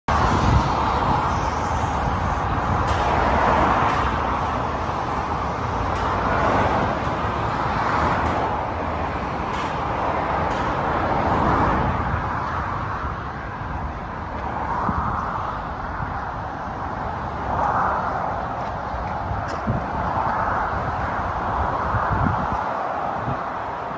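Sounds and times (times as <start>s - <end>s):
motorway traffic rushing: 0.0s - 23.9s.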